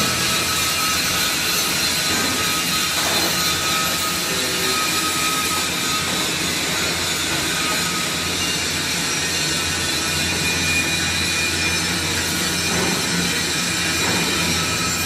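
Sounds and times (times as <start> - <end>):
machinery hissing and humming: 0.0 - 15.0.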